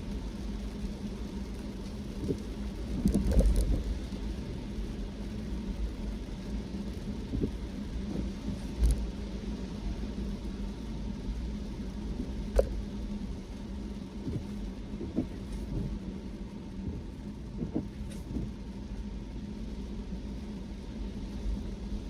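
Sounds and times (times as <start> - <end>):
tyres rumbling on wet road: 0.0 - 22.0.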